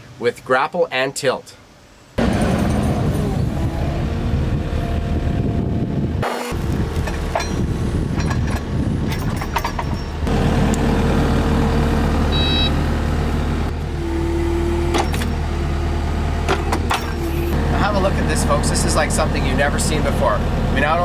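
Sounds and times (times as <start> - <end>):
diesel engine running: 2.2 - 21.0.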